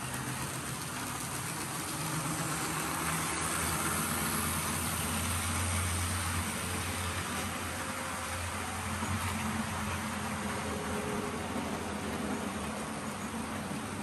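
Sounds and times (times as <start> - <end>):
model train motor hum: 0.0 - 14.0
wheels rumbling on track: 0.0 - 14.0.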